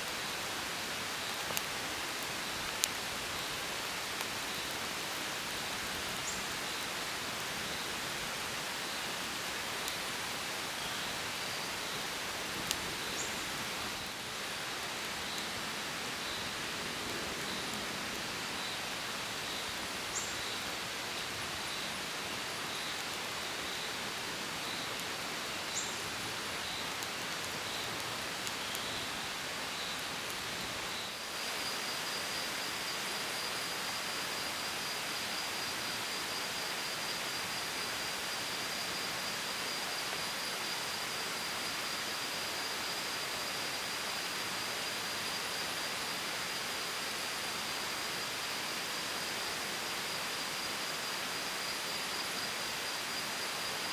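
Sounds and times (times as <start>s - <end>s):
outdoor hiss: 0.0s - 53.9s.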